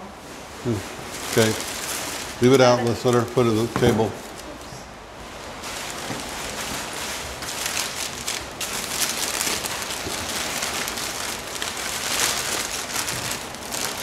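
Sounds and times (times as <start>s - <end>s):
packing paper rustling and crinkling: 0.4s - 14.0s.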